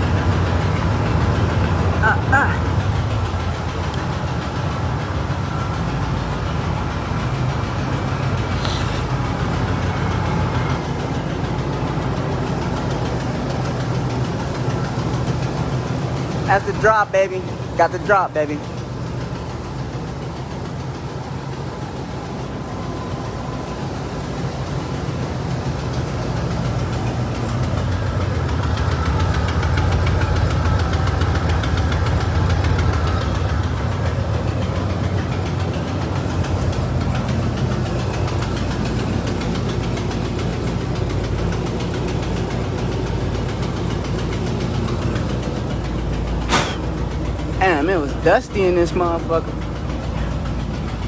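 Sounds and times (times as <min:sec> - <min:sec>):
engine idling with ticking: 0:00.0 - 0:51.0.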